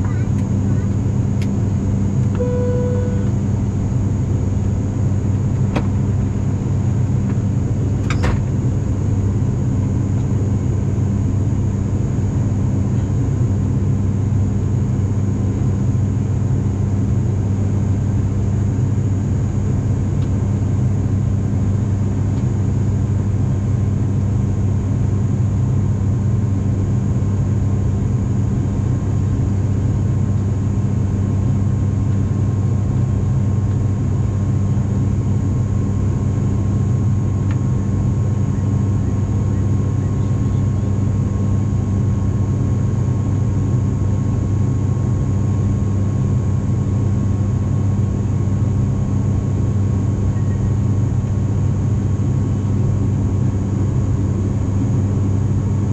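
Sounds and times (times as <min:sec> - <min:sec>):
turboprop engines droning in cabin: 0:00.0 - 0:55.9.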